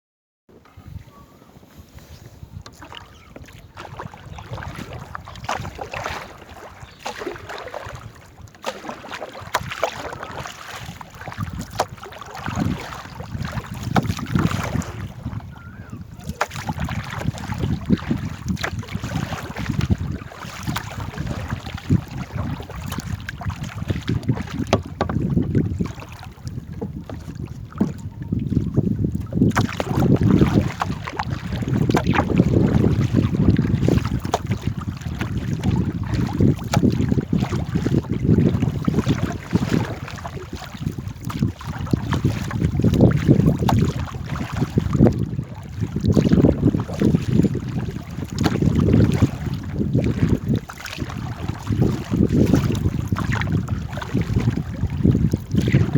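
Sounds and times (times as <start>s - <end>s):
paddles splashing in water: 0.5s - 55.9s
wind buffeting microphone: 0.5s - 55.9s.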